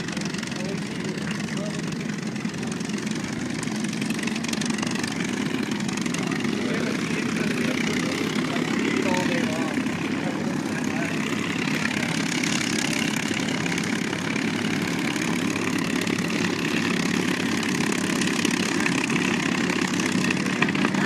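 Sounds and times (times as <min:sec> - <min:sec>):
aircraft engine droning: 0:00.0 - 0:21.0.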